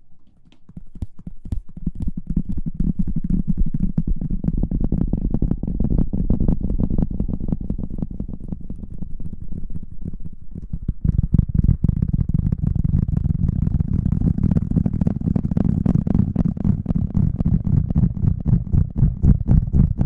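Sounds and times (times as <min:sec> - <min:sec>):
rubbing against microphone: 0:00.2 - 0:20.0.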